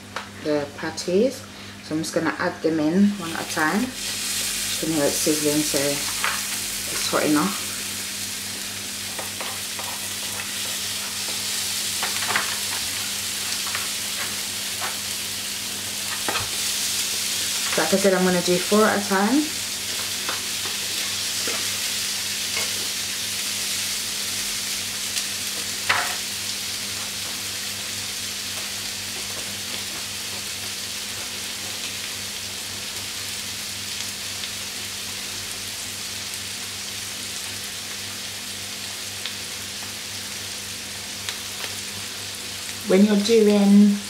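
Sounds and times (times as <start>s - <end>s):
burger patties sizzling in a pan: 3.1s - 44.0s.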